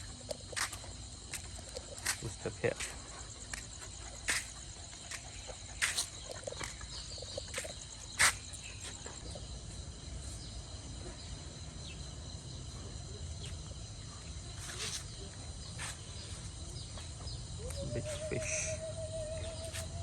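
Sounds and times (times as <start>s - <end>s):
insects chirping with pulsing trill: 0.0s - 20.0s.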